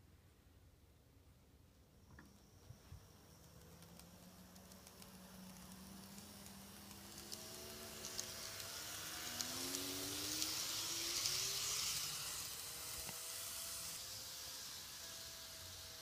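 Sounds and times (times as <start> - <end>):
faint motor whine: 0.0 - 16.0
model train wheels hissing: 2.3 - 16.0.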